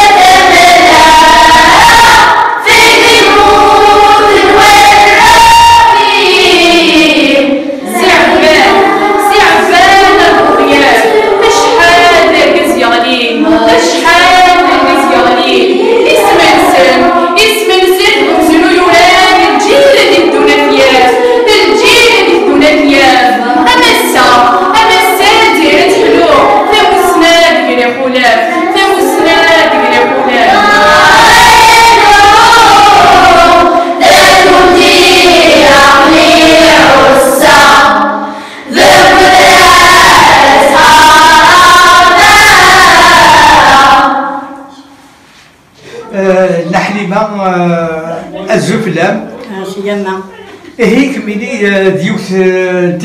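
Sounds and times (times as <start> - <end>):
children's choir singing: 0.0 - 45.1.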